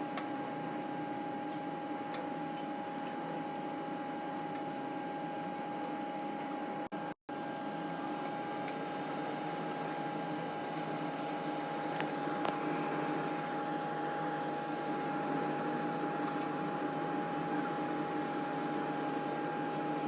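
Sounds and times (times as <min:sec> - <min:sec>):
machine humming and whining: 0:00.0 - 0:20.0.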